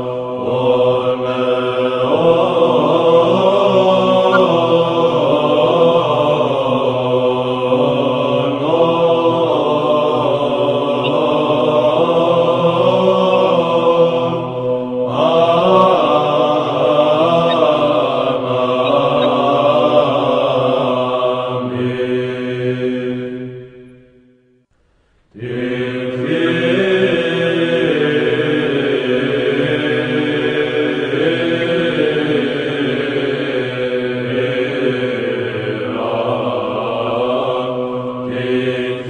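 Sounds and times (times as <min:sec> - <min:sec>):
voices chanting over drone: 0:00.0 - 0:24.0, 0:25.4 - 0:39.0.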